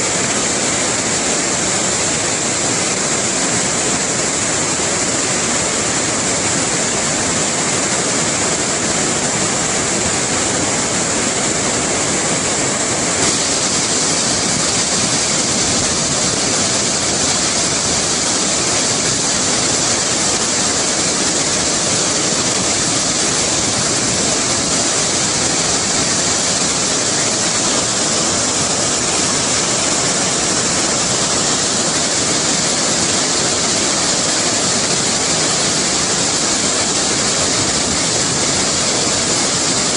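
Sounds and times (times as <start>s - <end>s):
river rushing over rocky rapids: 0.0s - 39.9s.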